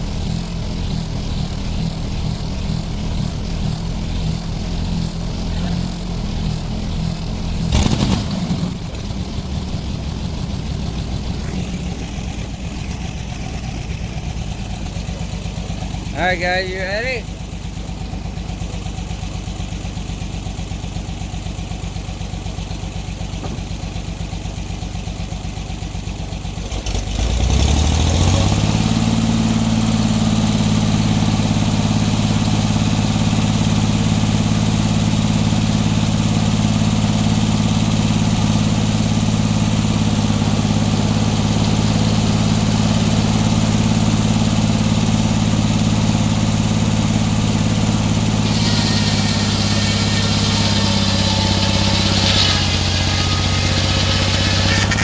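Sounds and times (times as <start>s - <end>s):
sawmill engine idling and revving: 0.0s - 55.0s.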